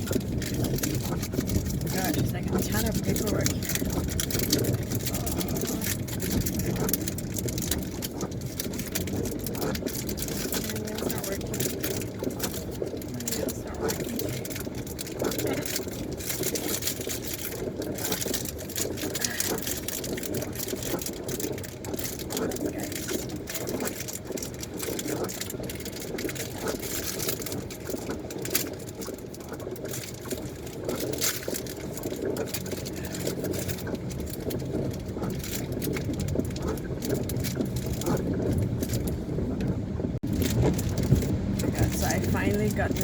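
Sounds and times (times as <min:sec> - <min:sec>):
low car cabin hum: 0:00.0 - 0:43.0
plastic packaging crinkling: 0:00.0 - 0:43.0.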